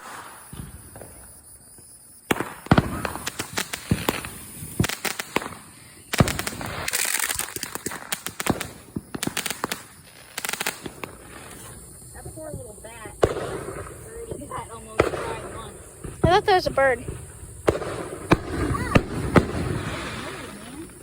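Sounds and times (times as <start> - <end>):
fireworks bangs and pops: 0.0 - 21.0
fireworks crackling: 0.0 - 21.0.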